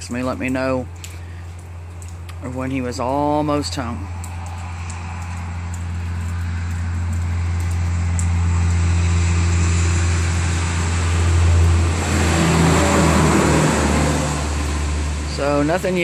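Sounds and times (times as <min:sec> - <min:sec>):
road vehicle passing: 0:00.8 - 0:16.0.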